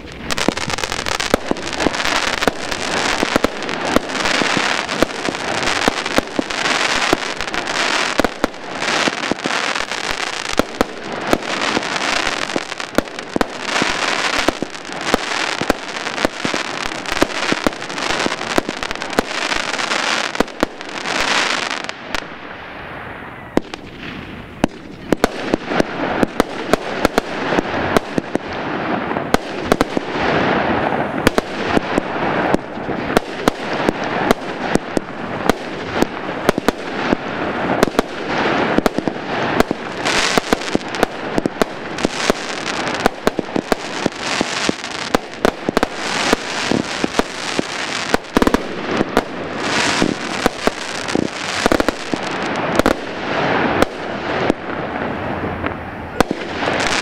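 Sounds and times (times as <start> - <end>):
continuous firework hiss: 0.0 - 57.0
firework bangs and pops: 0.0 - 57.0.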